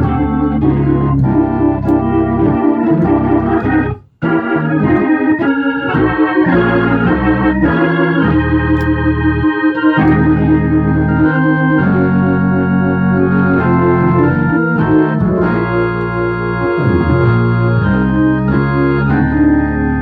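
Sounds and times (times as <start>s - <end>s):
organ playing chords: 0.0s - 20.0s.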